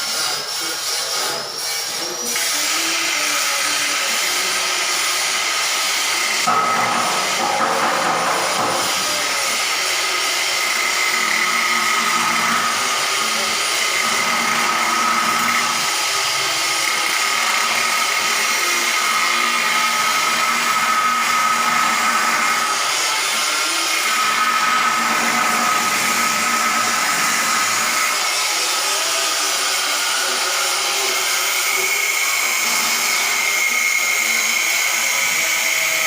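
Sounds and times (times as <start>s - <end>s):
power tool high whine: 0.0s - 36.0s.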